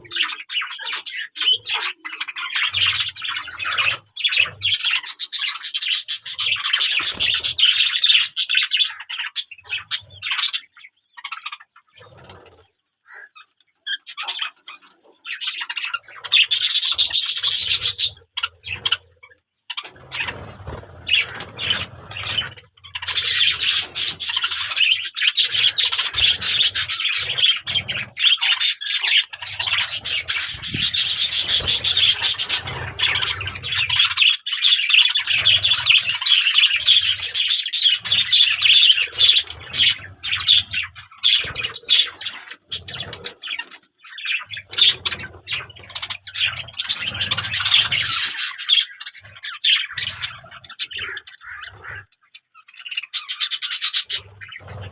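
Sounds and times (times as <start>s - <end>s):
small birds twittering: 0.0s - 54.9s.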